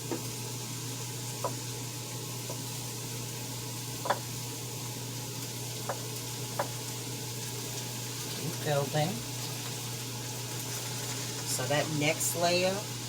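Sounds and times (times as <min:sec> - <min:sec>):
cabbage sizzling in a pot: 0:00.0 - 0:13.0.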